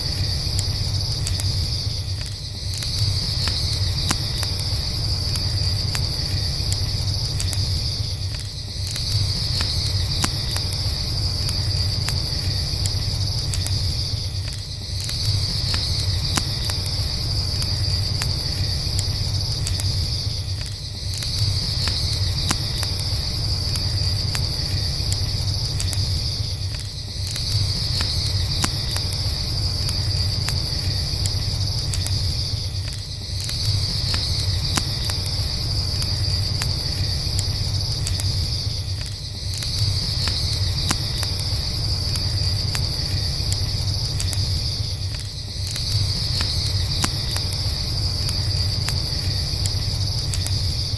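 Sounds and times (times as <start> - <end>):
campfire crackling and popping: 0.0 - 50.9
crickets chirping: 0.0 - 50.9.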